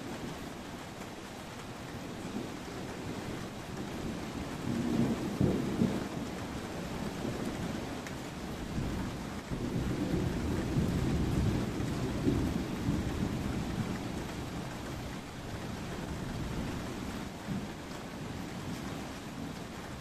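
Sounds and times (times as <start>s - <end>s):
steady rain: 0.0s - 20.0s
thunder rumbling: 2.2s - 20.0s.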